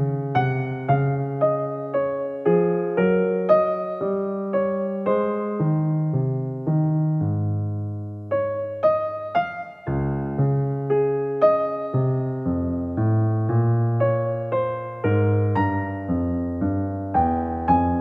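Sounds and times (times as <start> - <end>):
gentle electric piano melody: 0.0 - 18.0.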